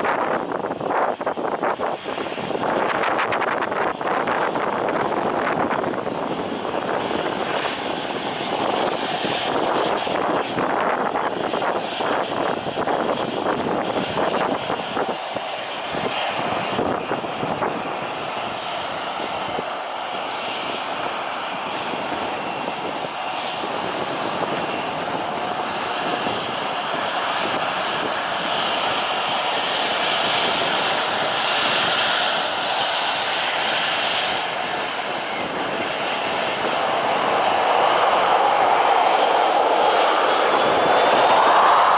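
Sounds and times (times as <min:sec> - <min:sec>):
airliner engines roaring: 0:00.0 - 0:41.9
high engine whine: 0:00.0 - 0:41.9.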